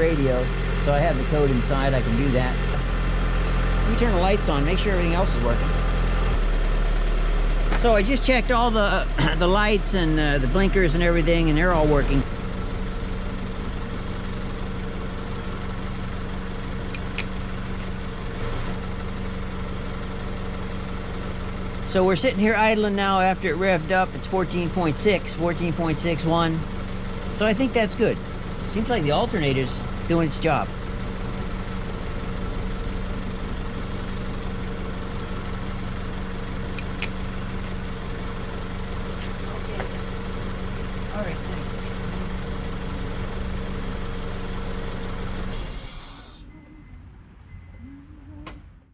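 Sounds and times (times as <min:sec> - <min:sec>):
car engine idling: 0:00.0 - 0:46.7.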